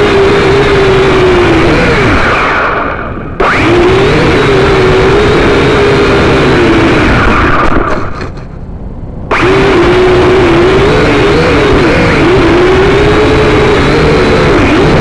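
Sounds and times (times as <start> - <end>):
electric motor and gears whining: 0.0 - 15.0.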